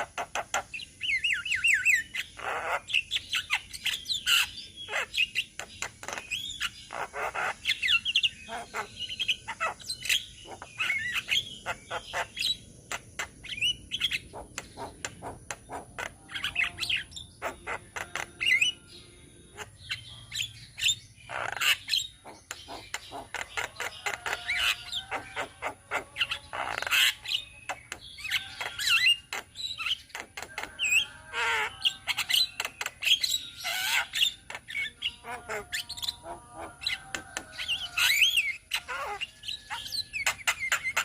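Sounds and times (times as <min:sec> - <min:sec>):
flock of mynas calling: 0:00.0 - 0:41.0.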